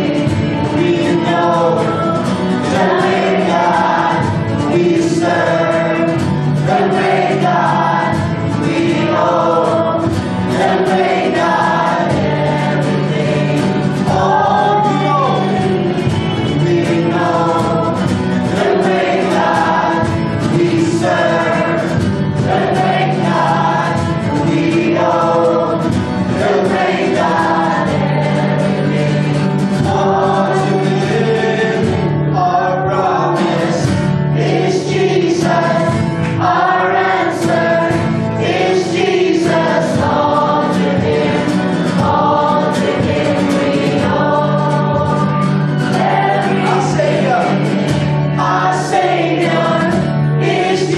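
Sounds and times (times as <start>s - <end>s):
bass line: 0.0s - 50.9s
choir singing gospel: 0.0s - 50.9s
instrumental accompaniment: 0.0s - 50.9s.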